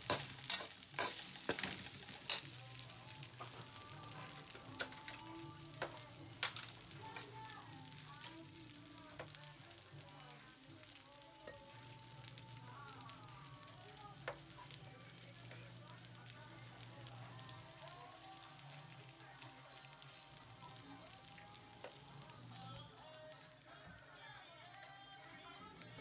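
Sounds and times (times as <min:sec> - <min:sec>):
rice sizzling in a wok: 0:00.0 - 0:26.0.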